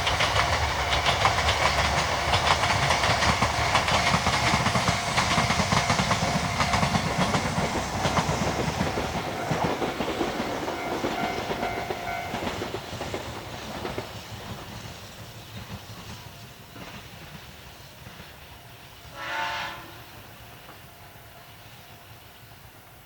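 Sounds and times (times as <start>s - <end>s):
train wheels clattering: 0.0s - 22.8s
low train rumble: 0.0s - 23.0s.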